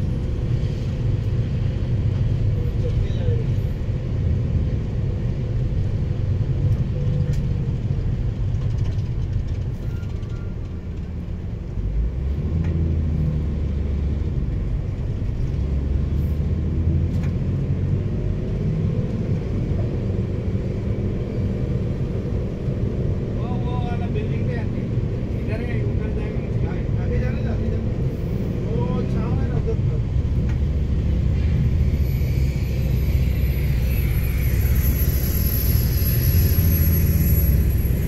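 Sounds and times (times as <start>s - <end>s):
vehicle engine and tyre rumble: 0.0s - 38.0s.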